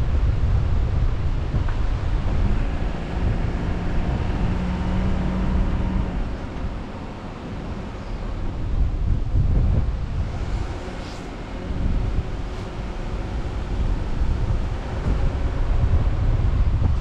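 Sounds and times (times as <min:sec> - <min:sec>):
engine hum: 0:00.0 - 0:17.0
wind buffeting microphone: 0:00.0 - 0:17.0.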